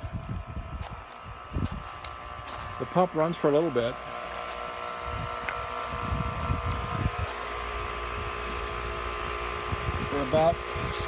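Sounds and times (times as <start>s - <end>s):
wind buffeting microphone: 0.0s - 2.9s, 4.6s - 11.0s
water pump motor humming: 0.0s - 11.0s.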